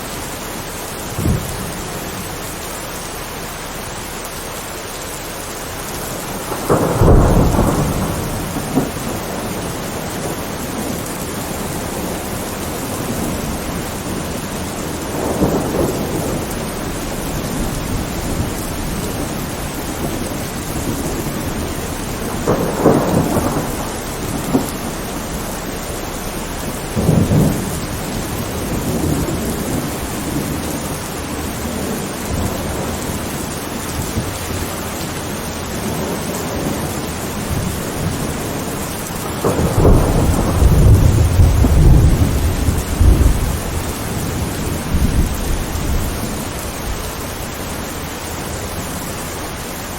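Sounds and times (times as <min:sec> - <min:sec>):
thunder rumbling: 0:00.0 - 0:03.4, 0:05.5 - 0:49.9
steady rain: 0:00.0 - 0:49.9.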